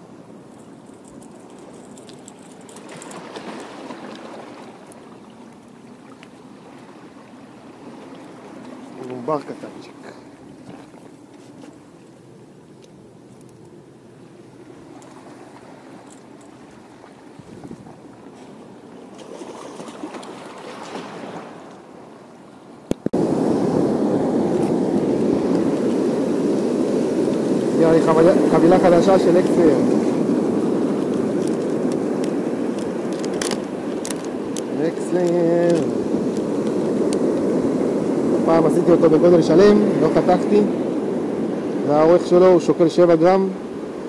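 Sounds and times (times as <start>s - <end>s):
rush of surf: 0.0s - 44.0s
waves lapping against rocks: 0.0s - 44.0s
wind: 0.0s - 44.0s.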